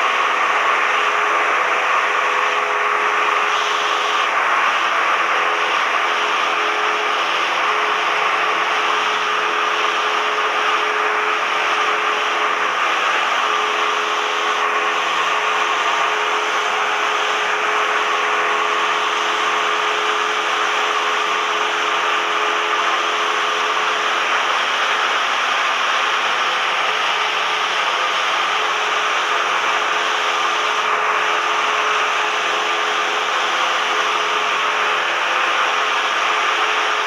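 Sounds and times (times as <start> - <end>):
small plane engine droning: 0.0 - 37.0.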